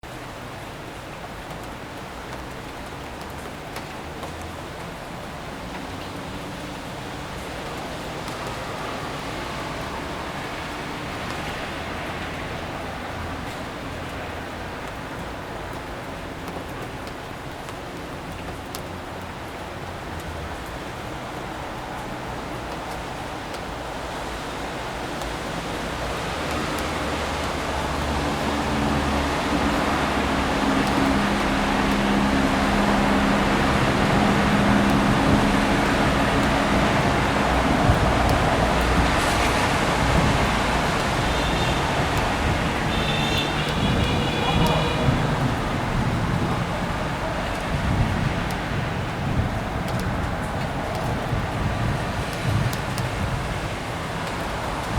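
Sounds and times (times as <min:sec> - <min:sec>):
distant traffic rumble: 0:00.0 - 0:54.9
rain on pavement: 0:00.0 - 0:54.9.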